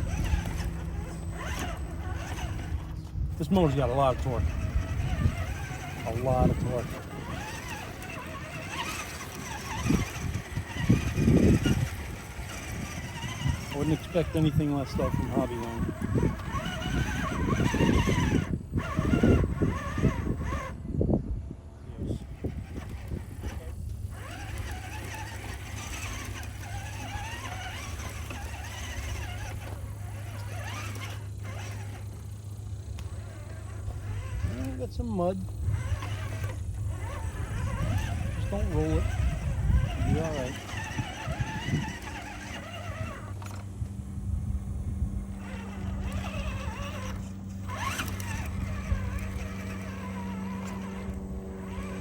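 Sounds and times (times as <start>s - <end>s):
toy car electric motor whining: 0.0s - 21.1s, 21.8s - 52.0s.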